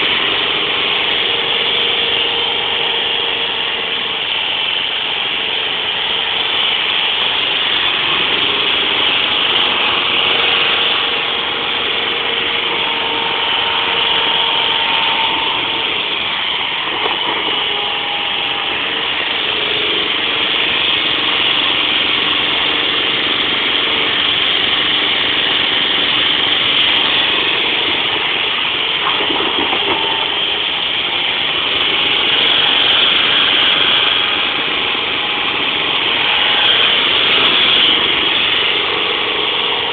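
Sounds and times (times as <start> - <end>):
faint whining tone: 0.0 - 39.9
forklift running: 0.0 - 39.9.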